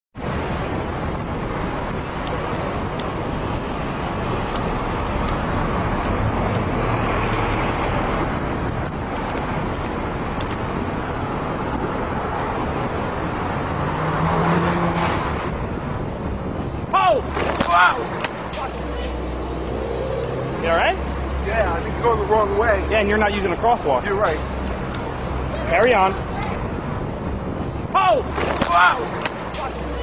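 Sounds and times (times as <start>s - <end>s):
city road traffic: 0.1s - 30.0s
motor vehicle humming: 0.2s - 30.0s
wind rushing over microphone: 0.2s - 30.0s.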